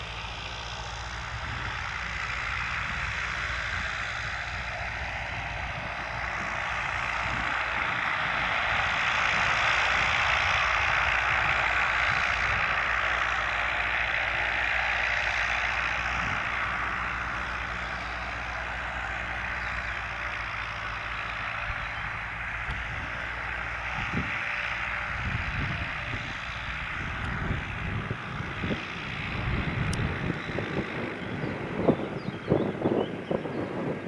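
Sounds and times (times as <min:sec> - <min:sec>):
aircraft engine running steadily: 0:00.0 - 0:34.0
wind buffeting microphone: 0:00.0 - 0:34.0.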